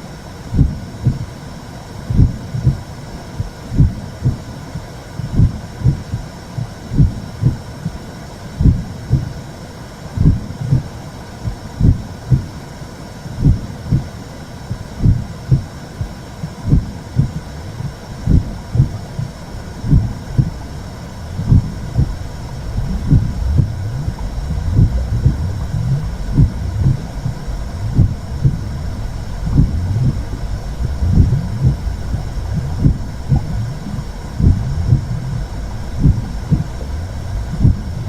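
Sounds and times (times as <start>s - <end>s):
low whooshing noise: 0.0s - 38.0s
slow heartbeat thumps: 0.6s - 1.3s, 2.1s - 4.5s, 5.2s - 8.0s, 8.6s - 9.4s, 10.2s - 12.5s, 13.4s - 14.1s, 14.7s - 38.0s.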